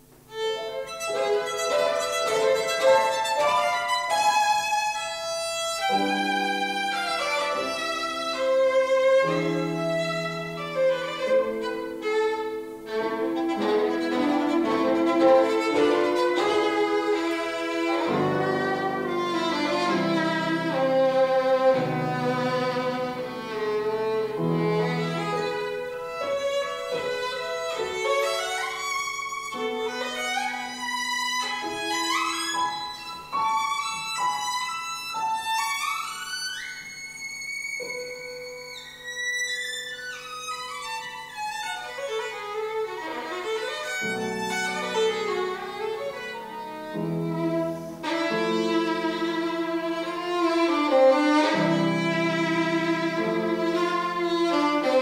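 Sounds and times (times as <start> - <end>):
piano accompaniment: 0.0 - 55.0
violin melody: 0.0 - 55.0.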